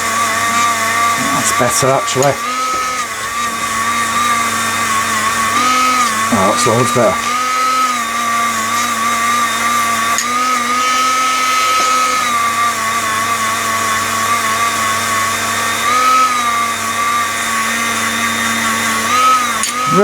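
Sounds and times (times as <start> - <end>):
rotary tool whining on metal: 0.0 - 20.0.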